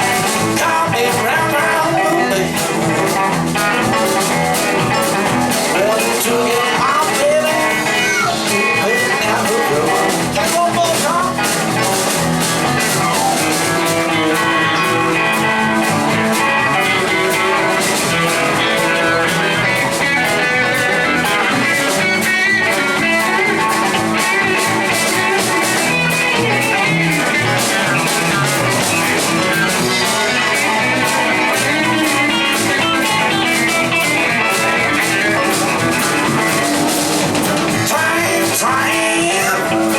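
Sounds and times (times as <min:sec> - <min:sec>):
band playing blues-rock: 0:00.0 - 0:39.9.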